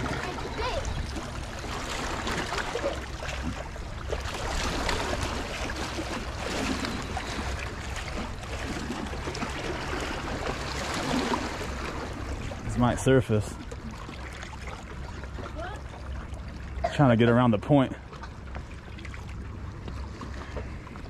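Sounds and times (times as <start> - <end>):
water lapping against rocks: 0.0 - 21.0.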